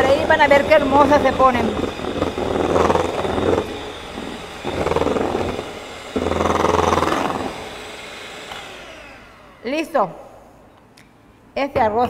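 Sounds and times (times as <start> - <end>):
electric hand mixer whirring: 0.0 - 10.0.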